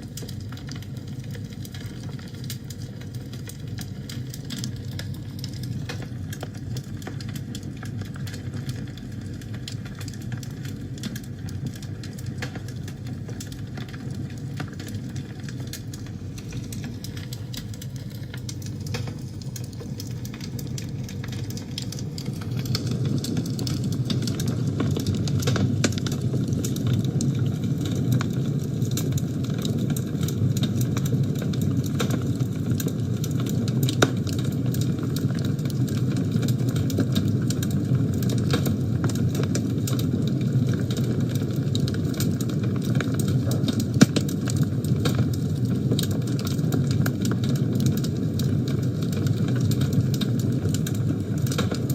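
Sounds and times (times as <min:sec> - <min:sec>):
fire crackling and snapping: 0:00.0 - 0:51.9
fire rumbling: 0:00.0 - 0:51.9.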